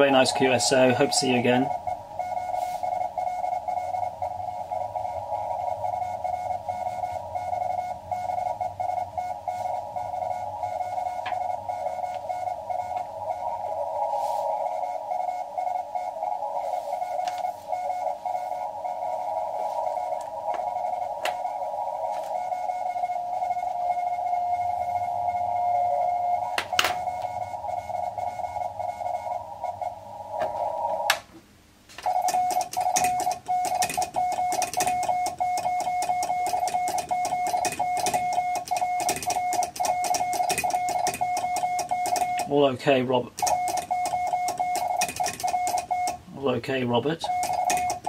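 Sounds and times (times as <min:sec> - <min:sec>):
morse code tone: 0:00.0 - 0:31.1, 0:32.0 - 0:48.0
radio static and hiss: 0:00.0 - 0:31.3, 0:31.9 - 0:48.0.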